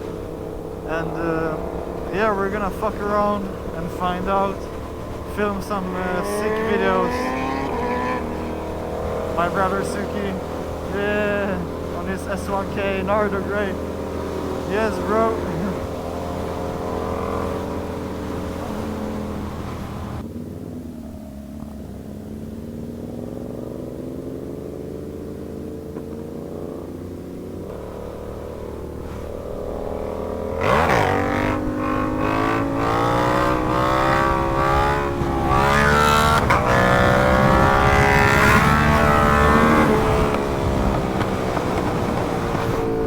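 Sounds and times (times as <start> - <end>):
motorbike engines revving: 0.0 - 43.0.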